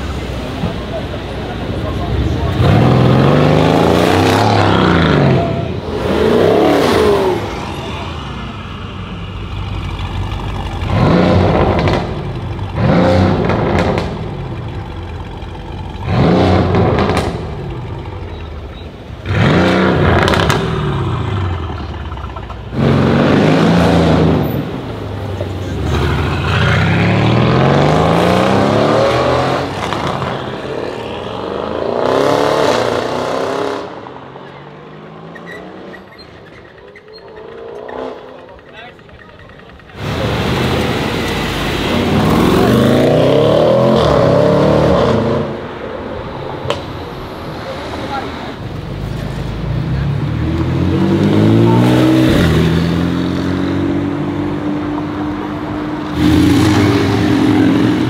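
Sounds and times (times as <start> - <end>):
cars revving and accelerating: 0.0 - 58.0.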